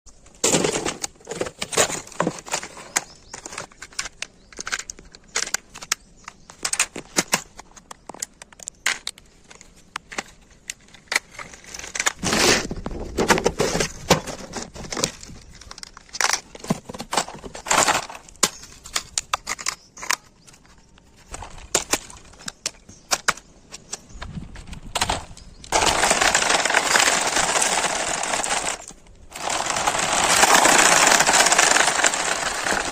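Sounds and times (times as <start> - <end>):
toy cars clattering over ground: 0.1 - 24.0, 24.7 - 32.9.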